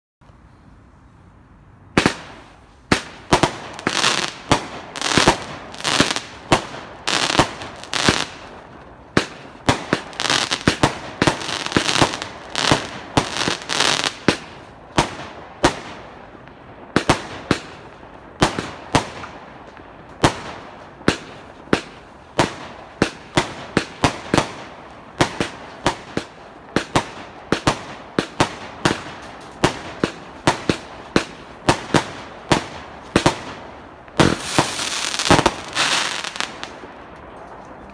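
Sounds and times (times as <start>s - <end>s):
continuous hiss: 0.2s - 37.9s.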